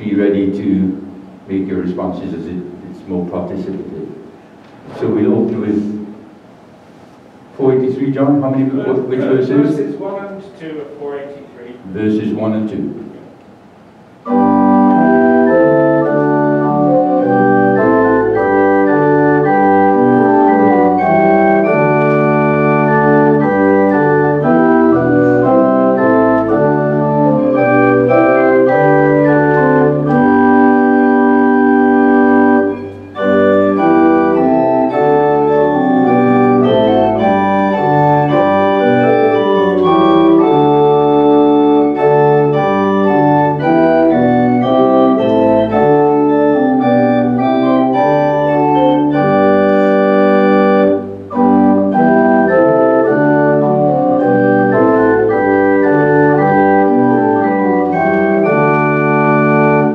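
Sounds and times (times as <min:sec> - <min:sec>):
organ playing hymn chords: 0:00.0 - 0:59.9.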